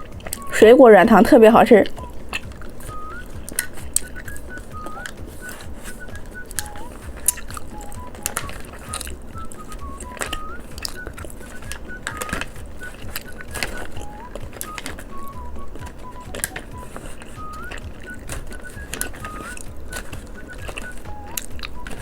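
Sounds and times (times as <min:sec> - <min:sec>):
light high melody music: 0:00.0 - 0:22.0
sharp clicks and crackles: 0:01.8 - 0:22.0.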